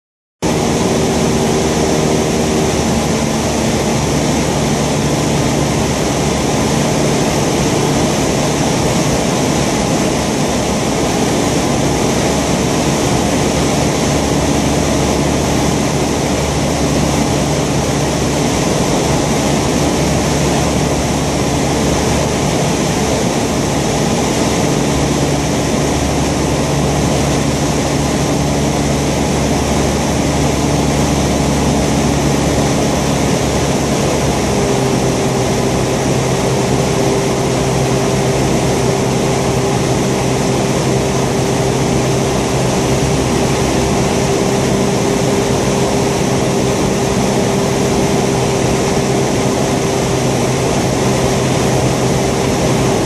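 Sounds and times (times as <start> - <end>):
microlight engine and propeller: 0.4 - 53.0.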